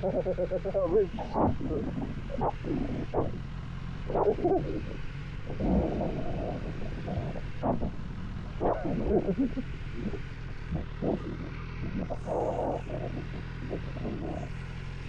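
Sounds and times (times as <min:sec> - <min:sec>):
car engine droning: 0:00.0 - 0:15.0
loud rumbling bursts: 0:00.0 - 0:15.0.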